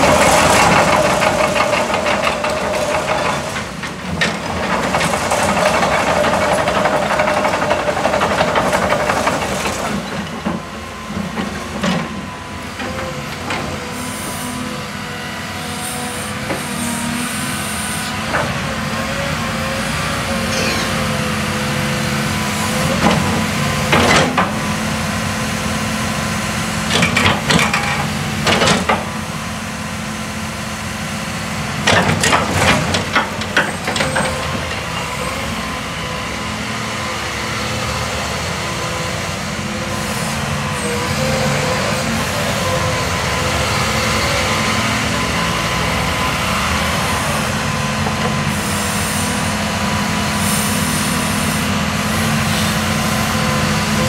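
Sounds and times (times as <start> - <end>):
diesel excavator running with whine: 0.0 - 54.0.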